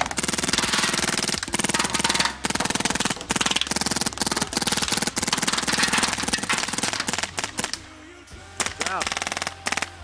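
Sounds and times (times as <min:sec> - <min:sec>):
paintball markers rapid firing: 0:00.0 - 0:07.8, 0:08.5 - 0:10.0.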